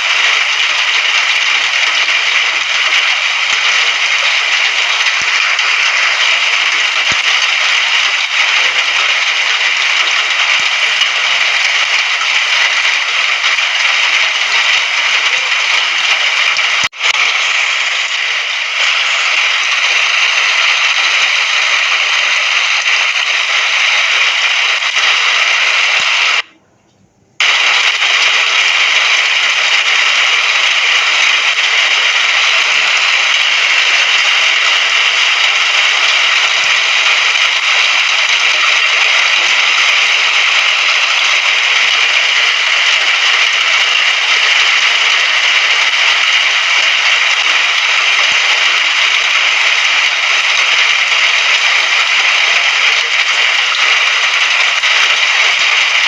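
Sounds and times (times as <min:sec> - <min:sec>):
rain hissing: 0:00.0 - 0:26.5, 0:27.4 - 0:56.0.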